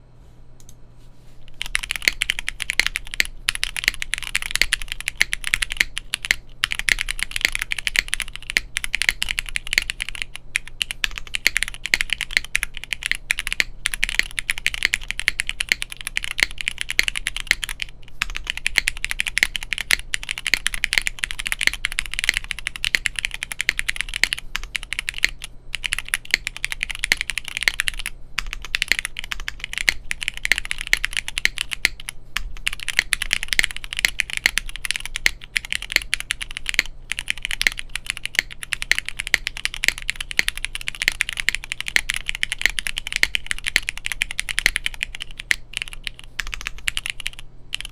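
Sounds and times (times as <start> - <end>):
mechanical keyboard typing: 1.5 - 47.9.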